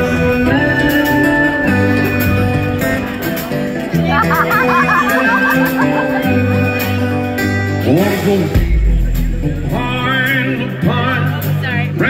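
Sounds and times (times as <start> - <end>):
country-rock band playing: 0.0 - 12.0
man singing lead vocal: 0.0 - 12.0.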